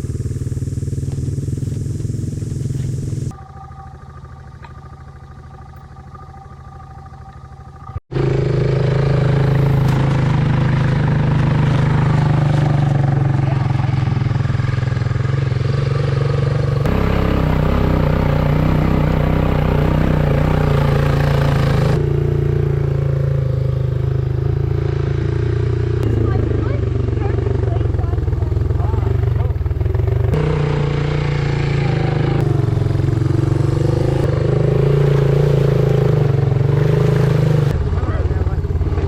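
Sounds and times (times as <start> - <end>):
quad bike engine running: 0.0 - 39.0.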